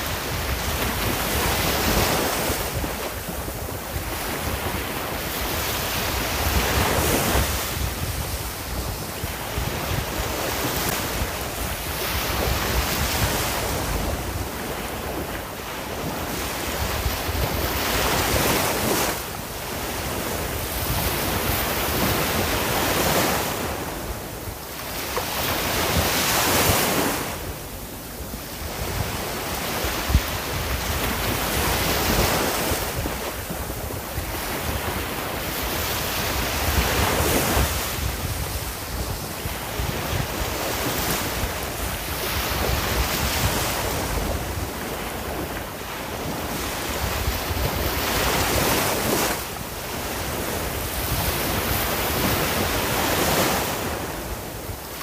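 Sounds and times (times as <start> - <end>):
ocean waves breaking on shore: 0.0 - 55.0
wind noise: 0.0 - 55.0.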